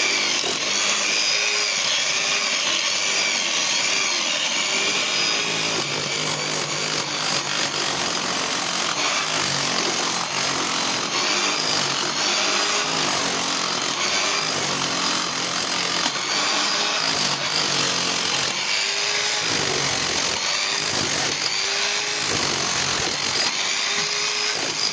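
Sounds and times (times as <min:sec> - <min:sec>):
rotary hammer drill running: 0:00.0 - 0:24.9.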